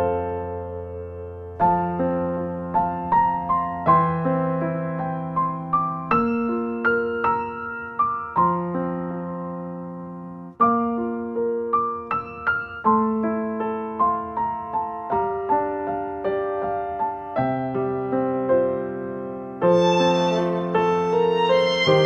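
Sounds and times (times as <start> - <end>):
soft piano chords: 0.0 - 22.0.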